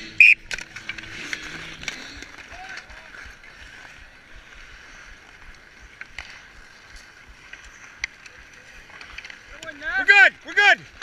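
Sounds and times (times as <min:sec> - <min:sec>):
skate blades scraping ice: 0:00.0 - 0:11.0.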